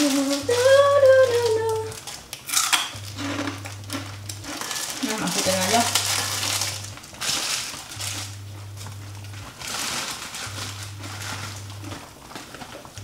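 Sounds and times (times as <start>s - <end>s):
low hum: 0.0s - 13.0s
pot simmering with crackling sizzle: 0.0s - 13.0s.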